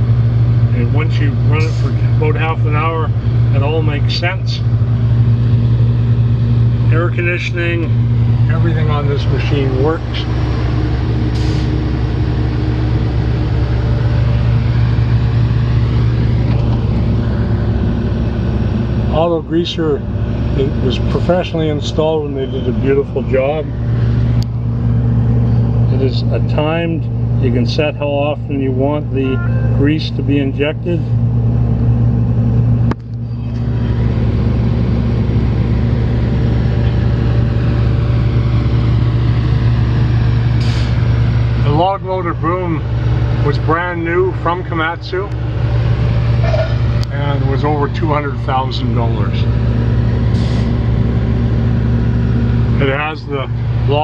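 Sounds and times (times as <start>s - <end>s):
excavator diesel engine idling: 0.0s - 54.0s.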